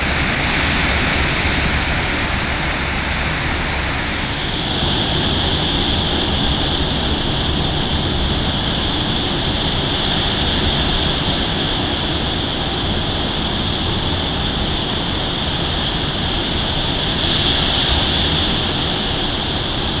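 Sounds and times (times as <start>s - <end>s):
rough sea rushing: 0.0s - 20.0s.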